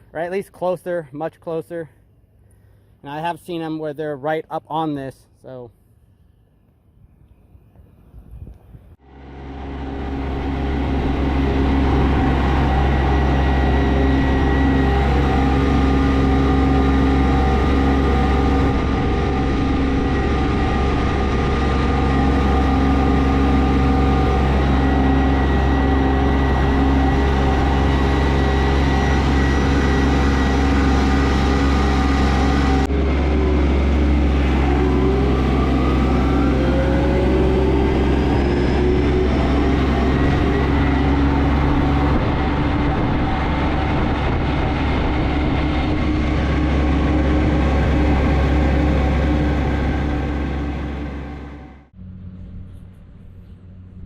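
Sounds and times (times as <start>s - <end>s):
tractor diesel engine running: 9.0s - 54.0s.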